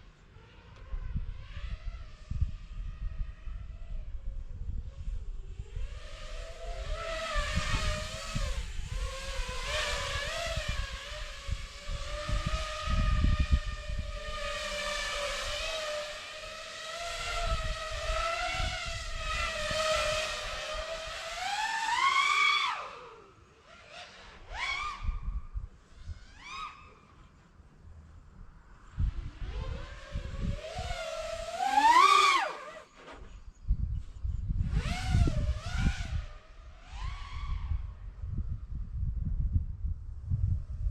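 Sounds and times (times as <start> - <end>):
wind rumble on microphone: 0.0 - 23.3, 23.9 - 40.9
drone motors whining: 0.0 - 38.3.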